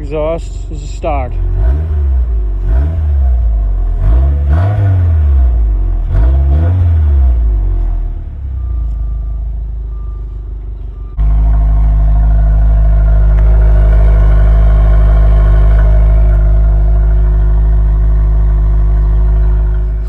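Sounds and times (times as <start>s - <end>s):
car engine revving: 0.0s - 10.0s, 11.1s - 20.0s
car engine running steadily: 0.0s - 20.0s.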